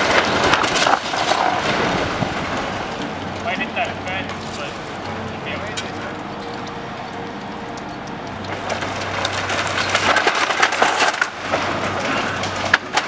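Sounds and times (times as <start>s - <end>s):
wood cracking and splintering: 0.0s - 13.0s.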